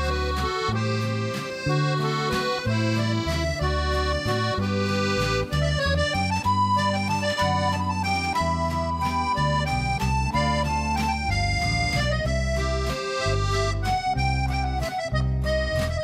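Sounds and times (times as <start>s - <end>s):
accordion music: 0.0s - 16.0s.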